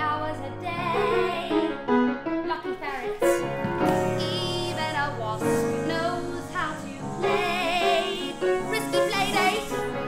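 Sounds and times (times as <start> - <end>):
musical accompaniment: 0.0 - 10.0.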